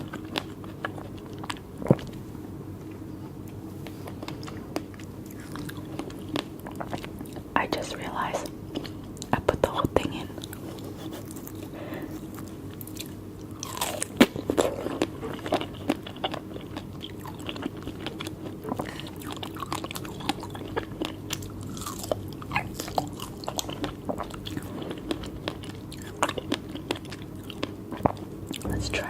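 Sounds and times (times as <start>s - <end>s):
person chewing: 0.0s - 2.2s, 2.8s - 7.5s, 10.4s - 29.0s.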